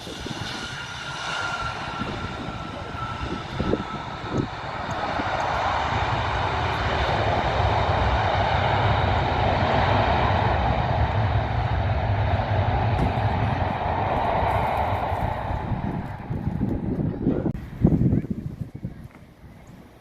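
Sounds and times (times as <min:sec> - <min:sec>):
aircraft engines roaring: 0:00.0 - 0:20.0.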